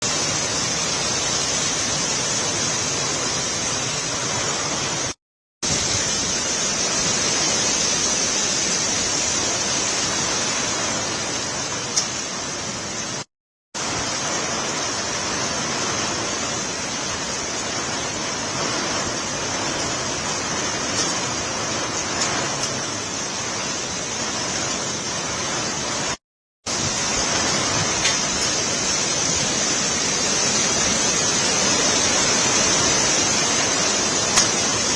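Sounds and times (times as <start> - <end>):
gusty wind: 0.0 - 34.9
heavy rain pouring: 0.0 - 34.9.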